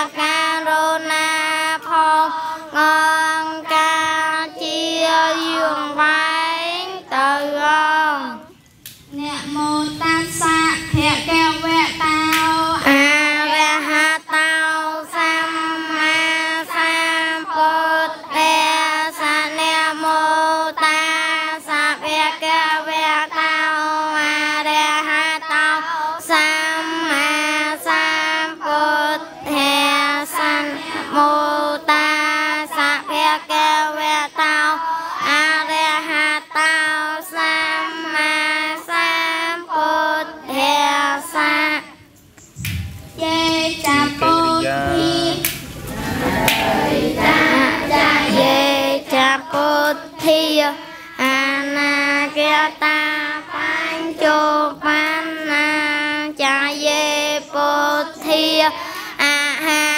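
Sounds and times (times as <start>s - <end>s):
children chanting prayers: 0.0s - 59.9s.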